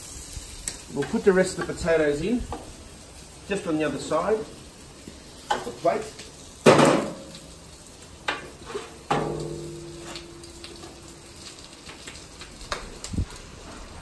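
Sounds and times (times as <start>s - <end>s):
food sizzling on grill: 0.0s - 14.0s.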